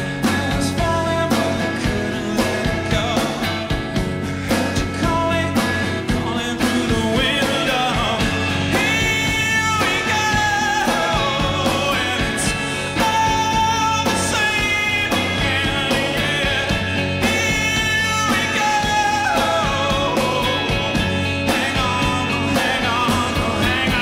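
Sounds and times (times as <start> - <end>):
drums: 0.0 - 24.0
electric guitar: 0.0 - 24.0
man singing: 0.0 - 24.0.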